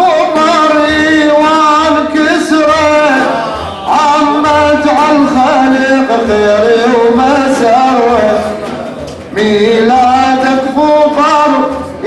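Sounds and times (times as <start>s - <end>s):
men singing wavering melody: 0.0s - 12.0s.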